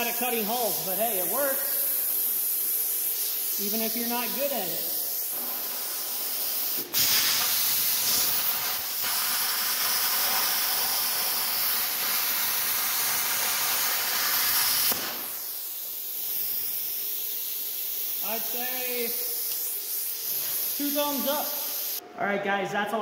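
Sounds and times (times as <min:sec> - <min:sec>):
air hiss from torch: 0:00.0 - 0:22.0
plasma cutter arc hissing: 0:00.0 - 0:22.0.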